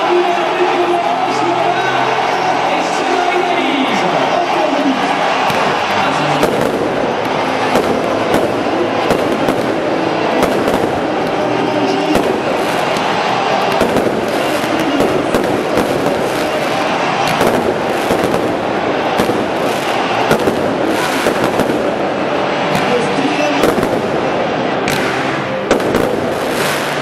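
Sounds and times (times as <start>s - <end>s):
fireworks bangs: 5.2s - 27.0s
fireworks crackling: 5.2s - 27.0s.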